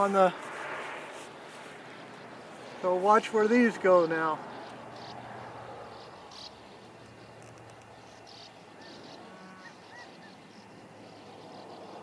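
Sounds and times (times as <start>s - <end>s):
faint outdoor ambience: 0.0s - 12.0s
soft bird chirps: 1.6s - 12.0s.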